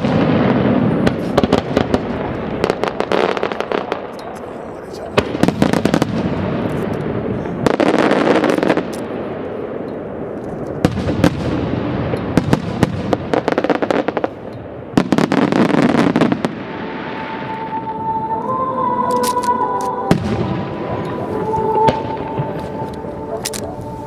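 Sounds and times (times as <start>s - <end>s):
fireworks bangs and crackling: 0.0s - 19.3s, 20.1s - 24.0s
rumble of fireworks bursts: 0.0s - 24.0s.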